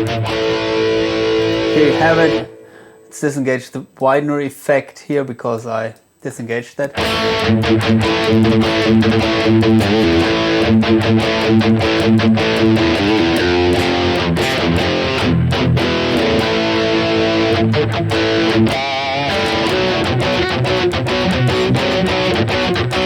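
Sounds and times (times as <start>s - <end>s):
distorted electric guitar: 0.0s - 3.2s, 6.9s - 23.0s.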